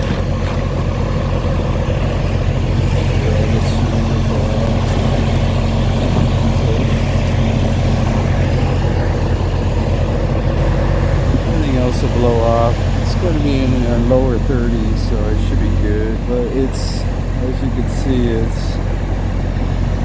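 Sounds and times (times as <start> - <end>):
truck diesel engine idling: 0.0 - 20.0.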